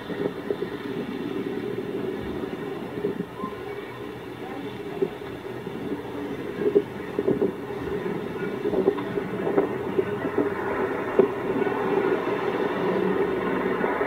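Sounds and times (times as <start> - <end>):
wildfire rushing noise: 0.0 - 14.0.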